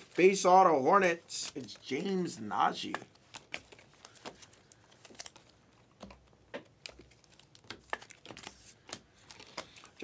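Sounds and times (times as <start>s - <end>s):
trading cards shuffled by hand: 1.0s - 10.0s.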